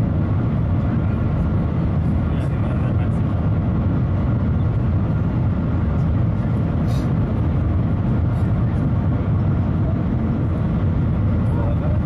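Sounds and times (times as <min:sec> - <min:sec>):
train cabin low rumble: 0:00.0 - 0:12.0.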